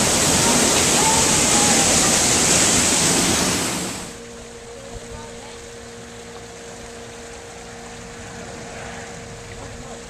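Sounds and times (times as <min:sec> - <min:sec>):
low mechanical hum: 0:00.0 - 0:10.0
rushing water of cascade: 0:00.0 - 0:10.0.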